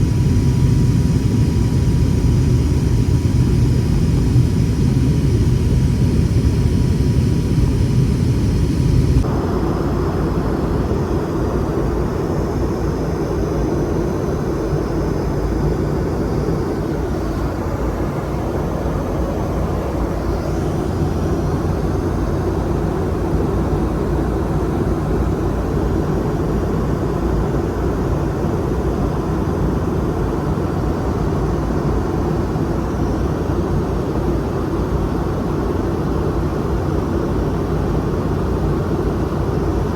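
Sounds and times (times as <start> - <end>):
aircraft cabin engine rush: 0.0 - 39.9.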